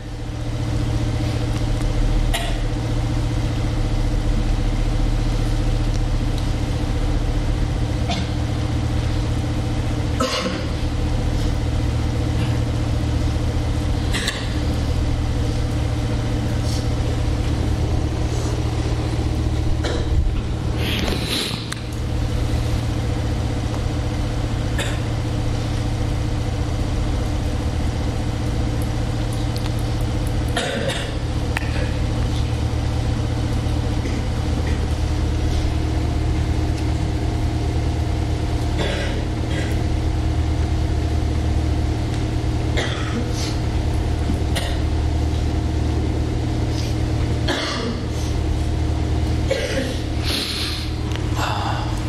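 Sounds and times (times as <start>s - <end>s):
low mechanical hum with tones: 0.0s - 52.0s.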